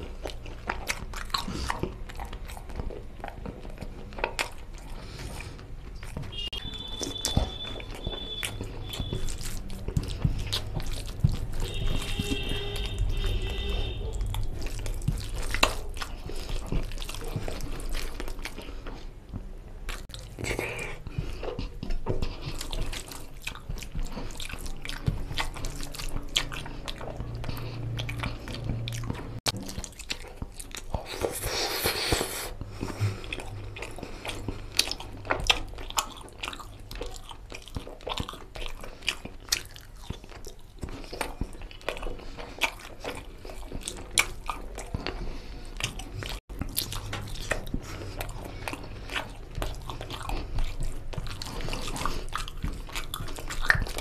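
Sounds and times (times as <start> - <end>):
close chewing: 0.0 - 54.0.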